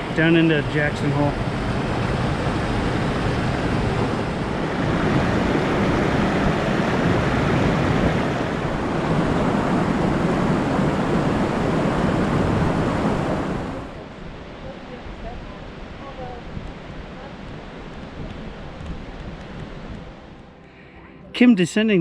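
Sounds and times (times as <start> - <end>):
wind buffeting microphone: 0.0 - 20.5.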